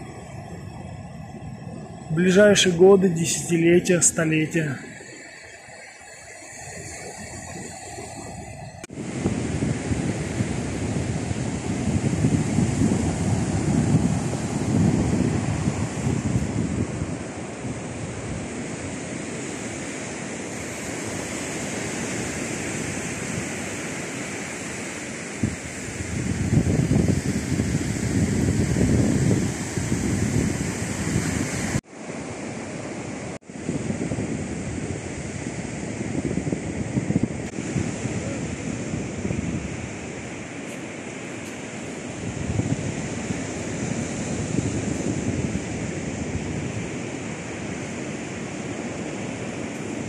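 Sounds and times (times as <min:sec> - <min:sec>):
ocean surf washing on sand: 0:00.0 - 0:50.0
wind buffeting microphone: 0:00.0 - 0:50.0.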